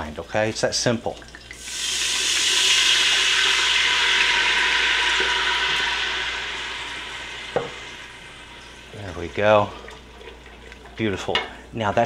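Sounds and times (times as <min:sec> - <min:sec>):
wine sizzling in hot pot: 0:01.3 - 0:11.4.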